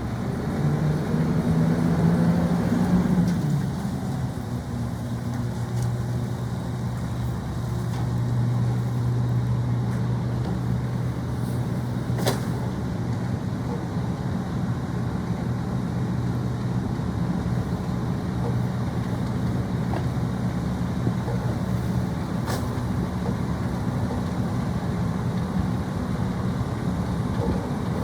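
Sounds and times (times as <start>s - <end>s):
garbage truck engine running: 0.0s - 28.0s.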